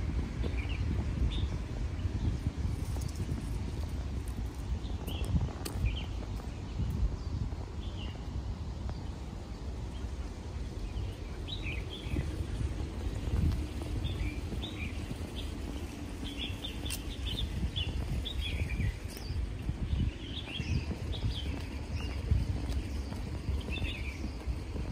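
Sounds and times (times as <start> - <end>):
footsteps on stone steps: 0.0 - 24.9
low outdoor background noise: 0.0 - 24.9
small birds chirping: 0.3 - 24.9.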